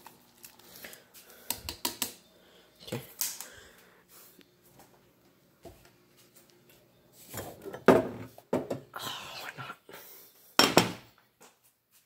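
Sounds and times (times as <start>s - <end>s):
faint hum: 0.0s - 10.5s.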